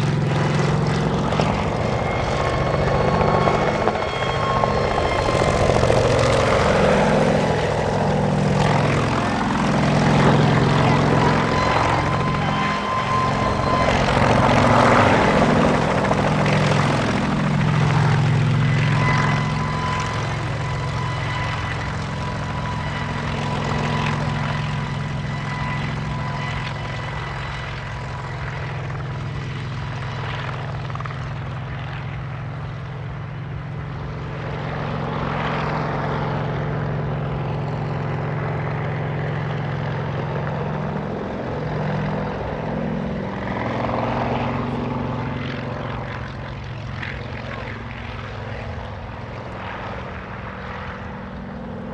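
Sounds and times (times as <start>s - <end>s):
helicopter flying low: 0.0s - 51.9s.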